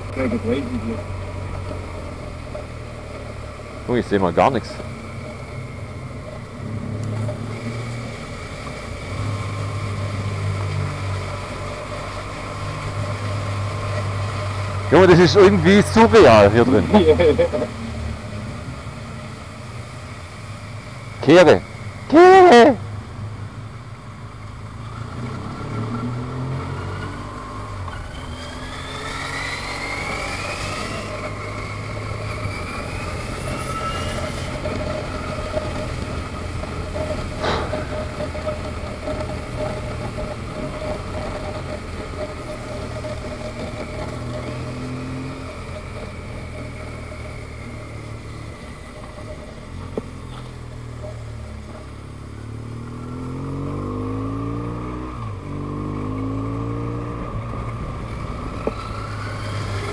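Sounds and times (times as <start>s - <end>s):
motorcycle engine revving: 0.0s - 59.9s
road noise: 0.0s - 59.9s.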